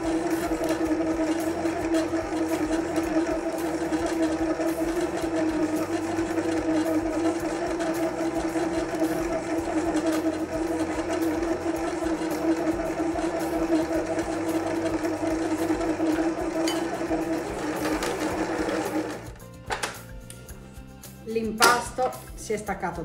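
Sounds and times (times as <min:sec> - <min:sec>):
stand mixer motor humming: 0:00.0 - 0:19.4.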